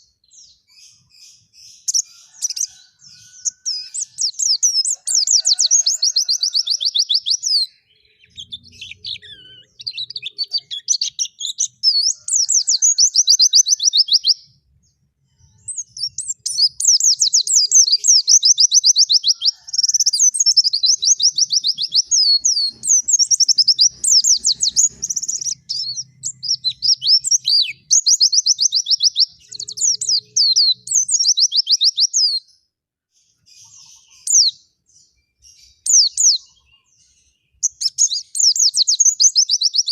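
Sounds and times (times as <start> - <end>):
songbird trilling: 0.0 - 14.5, 15.6 - 32.5, 33.5 - 34.6.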